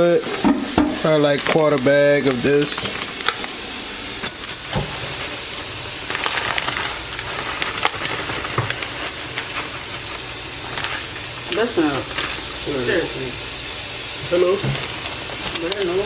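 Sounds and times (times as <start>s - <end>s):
sauce bubbling and sizzling: 0.0s - 16.0s.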